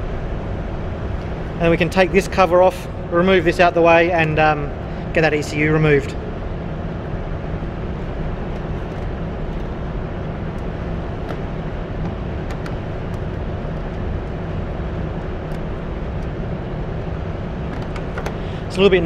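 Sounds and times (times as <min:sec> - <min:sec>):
low rumble and hum: 0:00.0 - 0:19.0.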